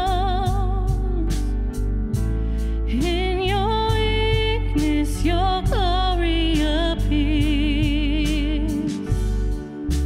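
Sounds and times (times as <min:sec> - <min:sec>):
live worship band playing: 0:00.0 - 0:10.0.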